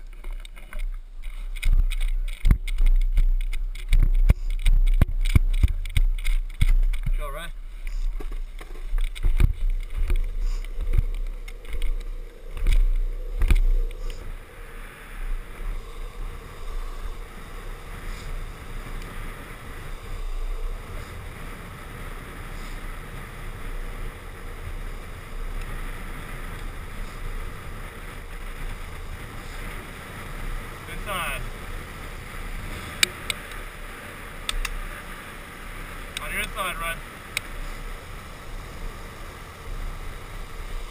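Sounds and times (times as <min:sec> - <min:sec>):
longboard wheels rolling on asphalt: 0:00.0 - 0:40.9
wind rushing over microphone: 0:00.0 - 0:40.9.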